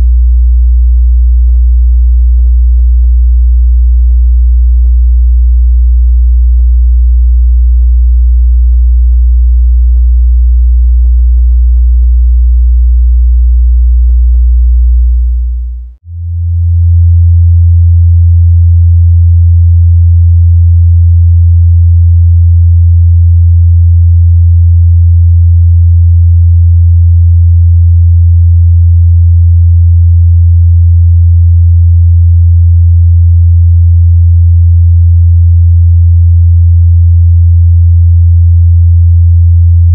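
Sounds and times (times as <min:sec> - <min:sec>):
higher sine-wave test tone: 0:00.0 - 0:39.9
low sine-wave test tone: 0:00.0 - 0:39.9.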